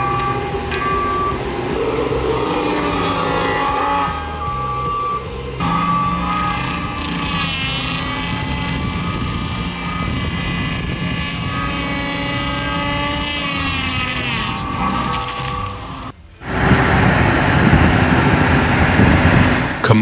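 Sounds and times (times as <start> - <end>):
high gliding whine: 0.0 - 19.8
heavy machine engine running: 0.0 - 20.0.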